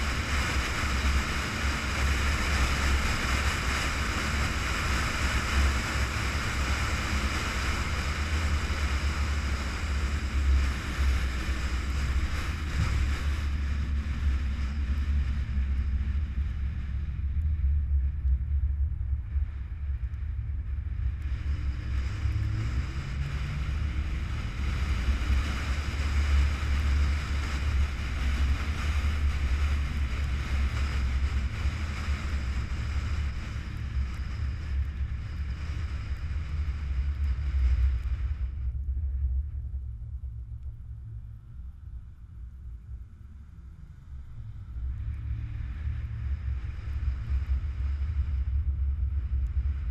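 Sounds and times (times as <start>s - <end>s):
wind on microphone: 0.0s - 40.9s
car road and engine rumble: 0.0s - 49.9s.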